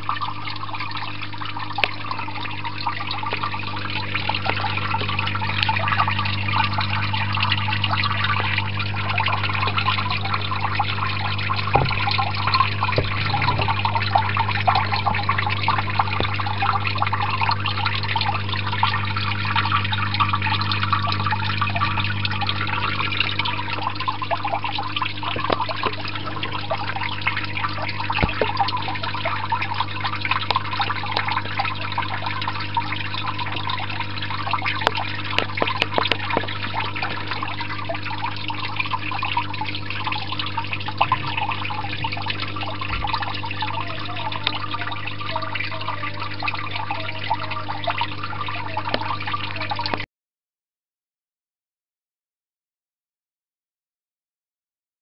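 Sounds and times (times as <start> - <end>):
steady low hum: 0.0 - 50.0
water trickling and dripping: 0.0 - 50.1.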